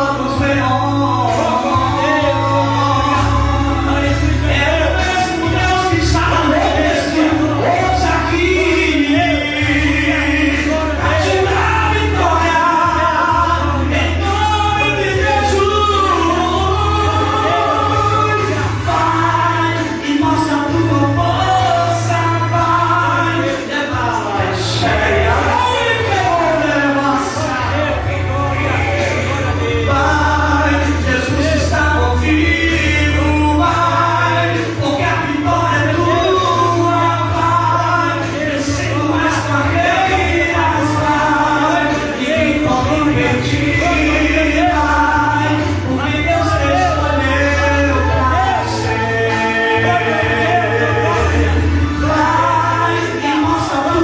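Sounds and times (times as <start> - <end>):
sustained bass accompaniment: 0.0 - 54.0
voices singing together: 0.0 - 54.0.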